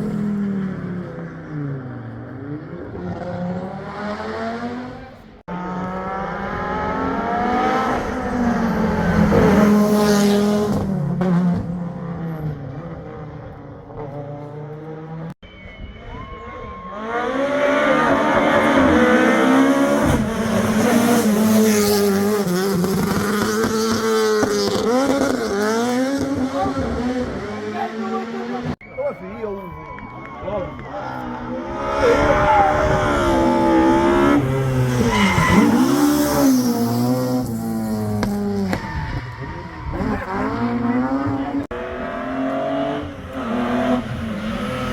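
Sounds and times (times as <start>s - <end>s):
rally car engine revving: 0.0s - 15.4s, 16.9s - 28.8s, 31.3s - 44.9s.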